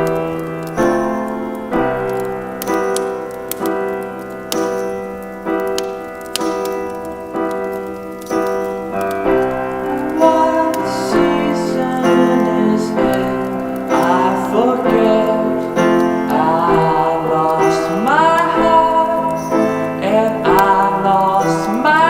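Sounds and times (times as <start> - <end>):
piano slow held chords: 0.0 - 22.0.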